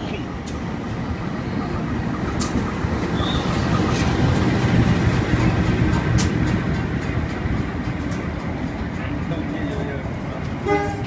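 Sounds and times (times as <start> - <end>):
diesel locomotive passing: 0.0 - 11.0
train coaches rolling past: 0.0 - 11.0
train wheels clicking: 0.0 - 11.0.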